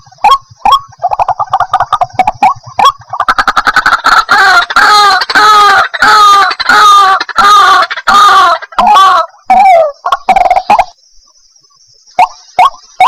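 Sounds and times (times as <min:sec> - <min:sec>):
bird clicking and croaking calls: 0:00.0 - 0:11.0.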